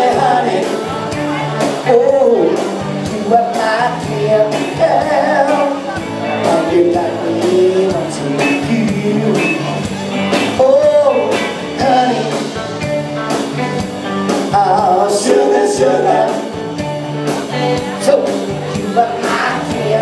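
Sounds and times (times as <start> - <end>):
person singing: 0.0 - 16.6, 17.3 - 20.0
guitar: 0.0 - 20.0
steady drum beat: 0.0 - 20.0.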